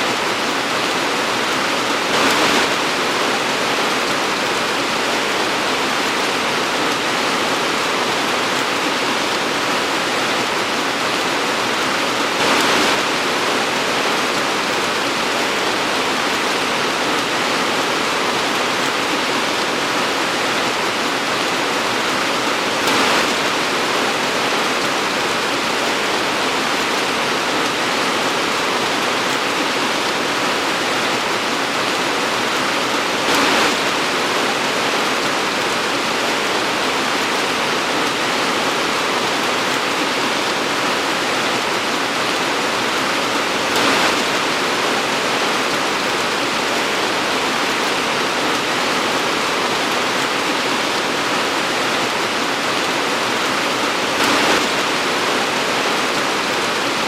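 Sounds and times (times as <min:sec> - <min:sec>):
torrential rain pouring: 0:00.0 - 0:57.0.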